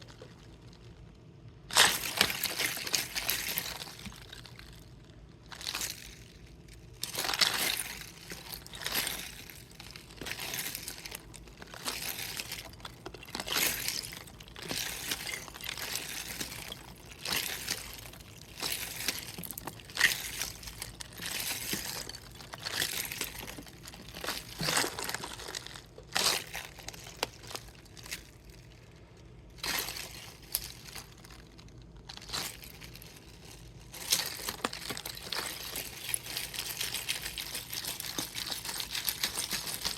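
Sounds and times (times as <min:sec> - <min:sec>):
plastic bottle crackling: 0:00.0 - 0:39.9
ice and water shifting: 0:07.0 - 0:28.7, 0:29.6 - 0:39.9.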